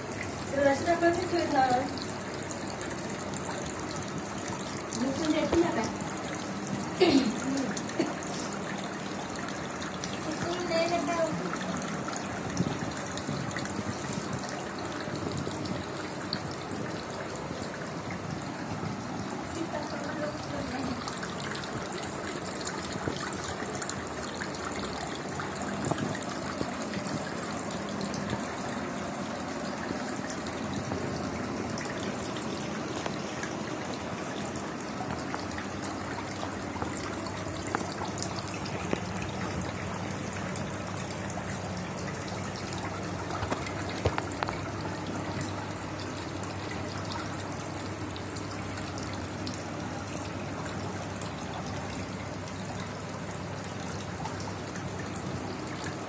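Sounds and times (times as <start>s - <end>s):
fountain trickling into water: 0.0s - 56.0s.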